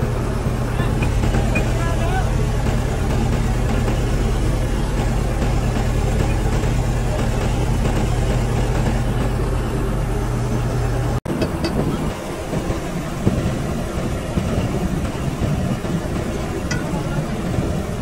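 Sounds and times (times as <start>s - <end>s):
engine idling: 0.0s - 18.0s
yard noise: 0.0s - 18.0s.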